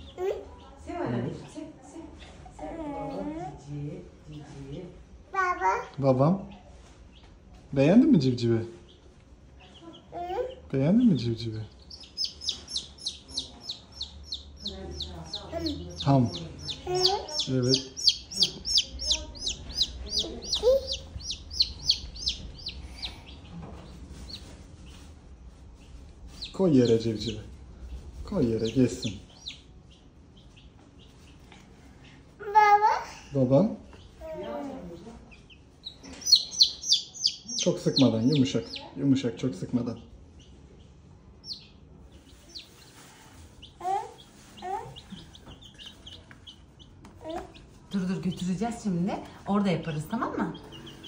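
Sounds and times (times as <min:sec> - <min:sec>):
baby chick peeping: 0:04.2 - 0:51.0.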